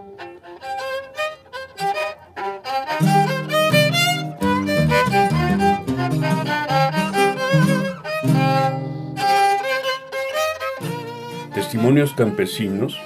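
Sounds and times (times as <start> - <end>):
bowed violin melody: 0.0 - 13.0.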